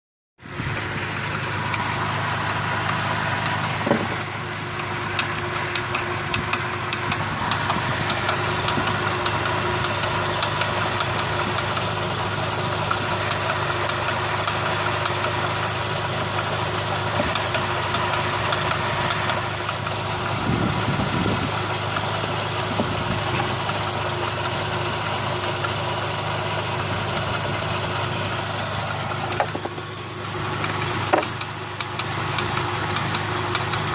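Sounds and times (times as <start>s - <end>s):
engine idling with a knock: 0.8s - 33.9s.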